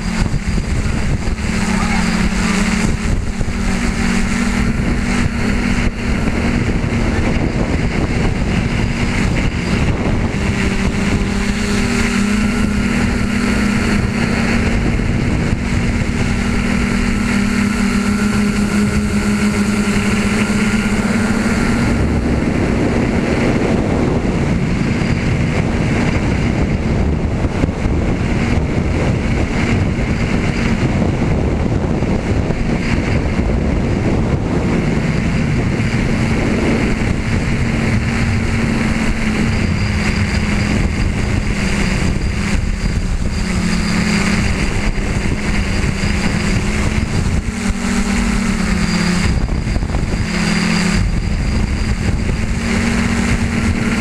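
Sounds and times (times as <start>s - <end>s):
drone motors humming: 0.0s - 54.0s
wind rushing over microphone: 0.0s - 54.0s.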